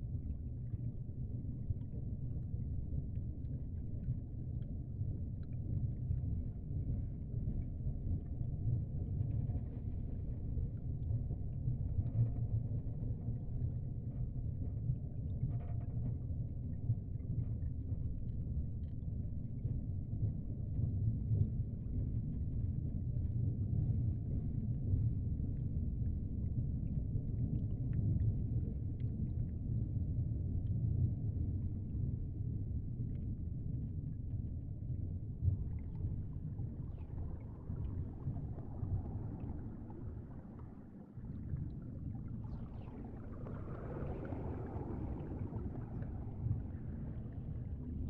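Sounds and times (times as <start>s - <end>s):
underwater rumble: 0.0s - 48.0s.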